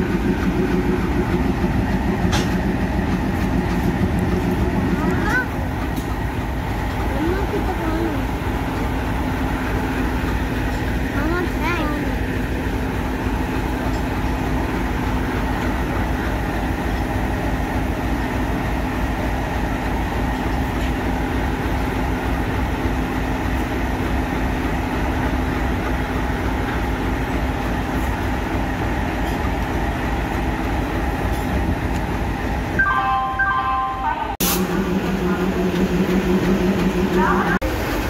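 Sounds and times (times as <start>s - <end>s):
diesel locomotive engine idling: 0.0s - 38.0s.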